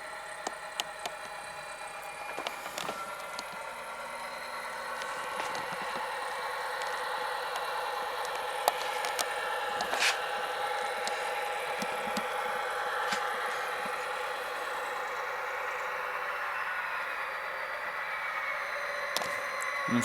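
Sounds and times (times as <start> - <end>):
diesel engine idling through small speaker: 0.0 - 20.0.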